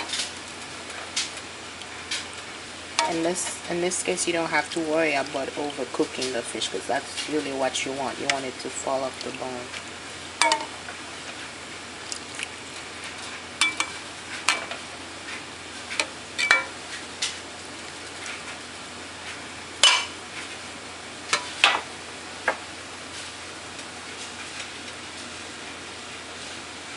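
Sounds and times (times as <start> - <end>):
broth simmering in metal pot: 0.0 - 26.9.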